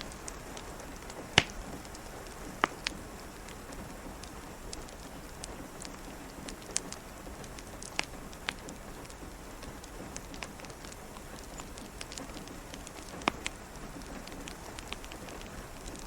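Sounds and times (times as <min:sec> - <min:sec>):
steady rain hiss: 0:00.0 - 0:16.0
wood fire crackling and popping: 0:00.0 - 0:16.0.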